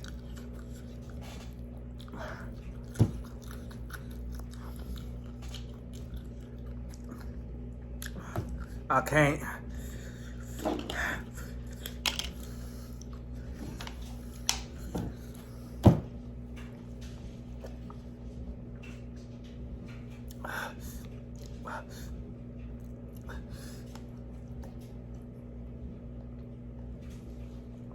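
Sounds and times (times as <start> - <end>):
low room hum: 0.0 - 27.9.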